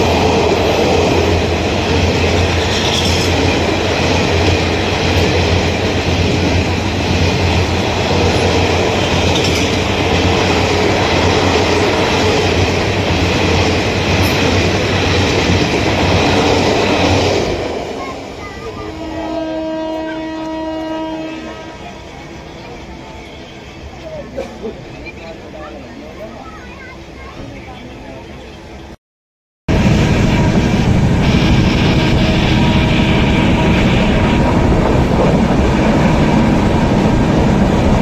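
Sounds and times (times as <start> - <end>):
train passing at speed: 0.0 - 29.0, 29.7 - 38.0.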